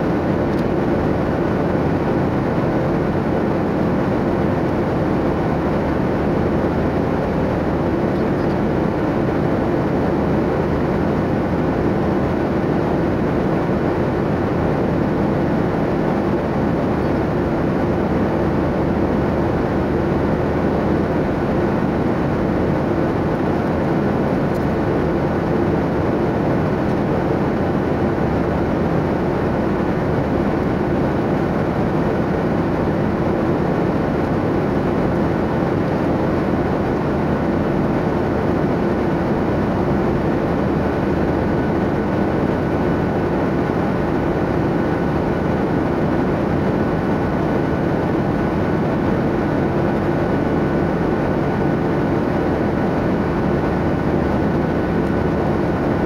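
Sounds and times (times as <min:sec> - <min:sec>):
airliner cabin noise: 0:00.0 - 0:56.0.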